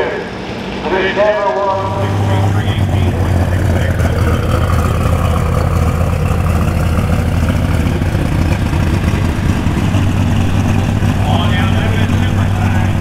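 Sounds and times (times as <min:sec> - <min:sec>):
heavy tractor engine idling: 0:00.1 - 0:13.0.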